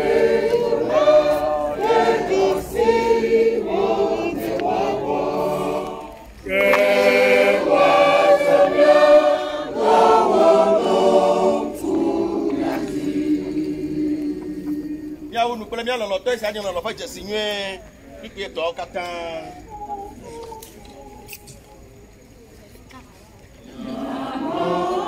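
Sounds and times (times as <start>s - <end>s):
choir singing unaccompanied: 0.0s - 16.2s, 18.8s - 22.1s, 23.6s - 25.0s.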